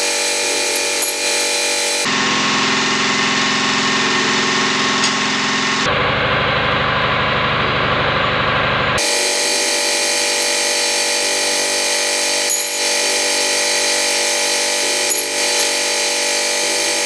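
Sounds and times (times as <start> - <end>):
drill press whining: 0.0 - 17.0.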